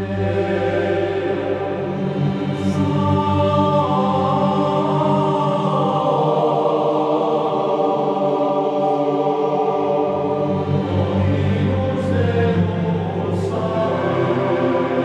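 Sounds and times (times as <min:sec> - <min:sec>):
male choir chanting: 0:00.0 - 0:15.0.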